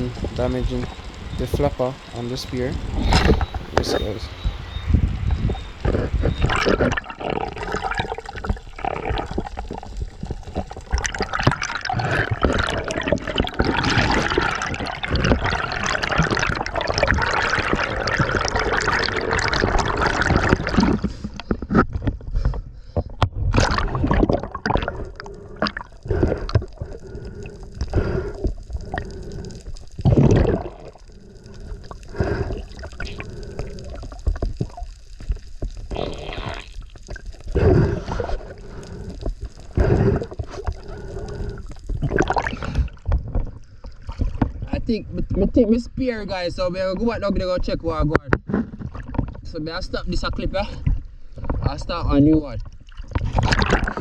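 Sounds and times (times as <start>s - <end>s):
water sloshing and gurgling: 0.0s - 45.7s, 46.7s - 54.0s.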